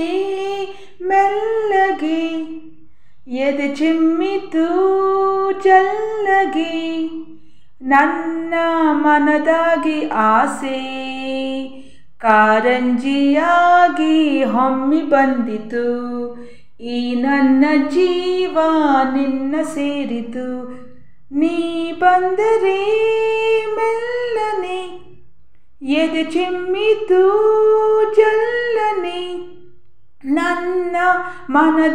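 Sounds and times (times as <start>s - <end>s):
woman singing unaccompanied: 0.0s - 25.2s, 25.8s - 31.9s.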